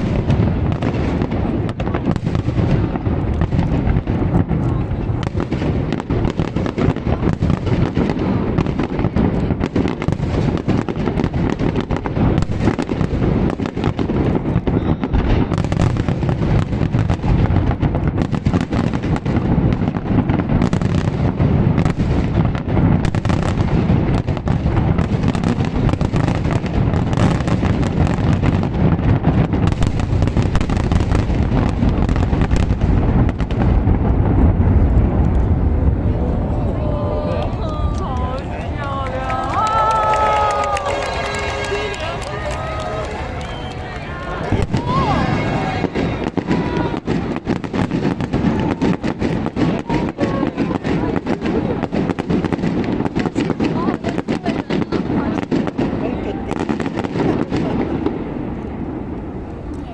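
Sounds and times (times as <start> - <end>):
fireworks crackles and pops: 0.0 - 59.9
fireworks rumble of bursting shells: 0.0 - 59.9.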